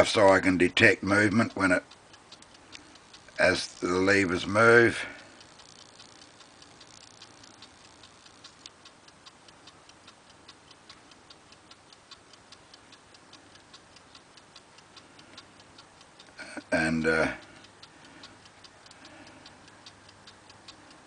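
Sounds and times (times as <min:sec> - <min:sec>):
faint clock ticking: 0:00.0 - 0:21.0.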